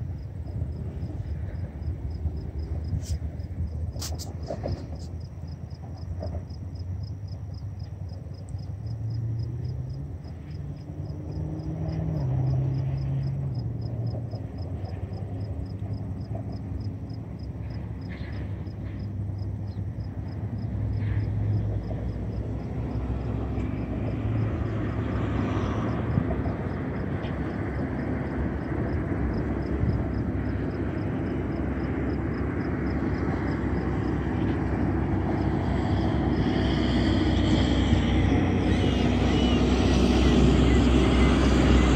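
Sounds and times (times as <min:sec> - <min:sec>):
low engine drone: 0:00.0 - 0:41.9.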